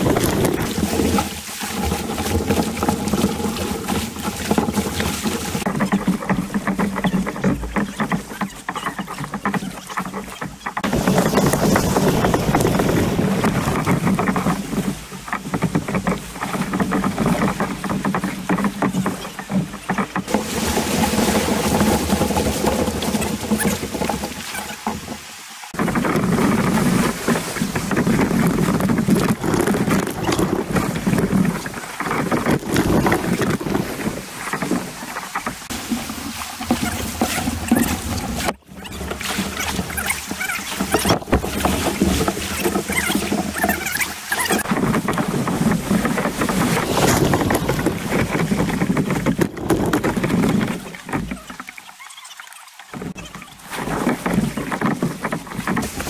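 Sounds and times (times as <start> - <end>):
paddle splashes and knocks: 0.0 - 56.0
river water rushing and splashing: 0.0 - 56.0.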